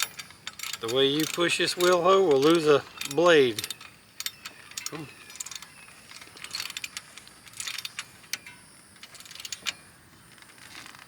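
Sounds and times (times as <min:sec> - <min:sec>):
ratchet wrench clicking: 0:00.0 - 0:10.7.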